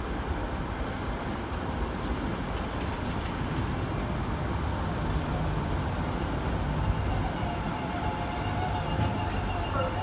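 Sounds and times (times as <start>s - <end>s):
train coaches rumbling past: 0.0s - 10.0s.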